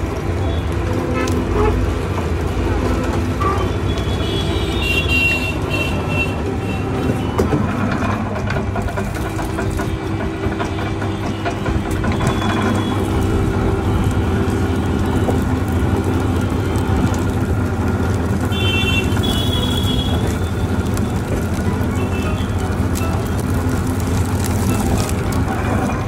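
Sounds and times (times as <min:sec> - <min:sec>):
crushing machine low drone: 0:00.0 - 0:26.0.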